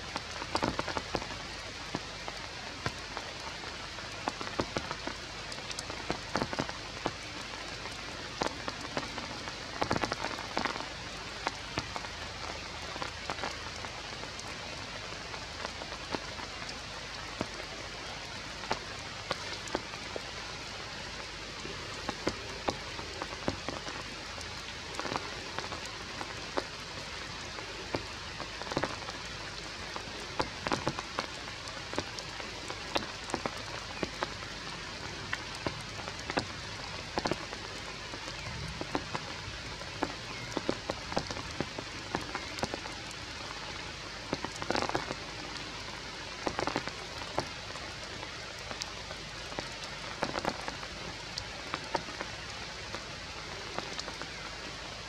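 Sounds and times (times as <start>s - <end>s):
drips striking wet leaves: 0.0s - 54.6s
rain falling through foliage: 0.0s - 55.0s.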